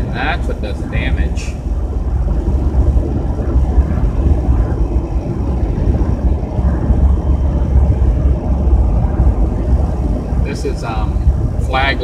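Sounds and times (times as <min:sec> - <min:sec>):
road noise and engine drone: 0:00.0 - 0:12.0.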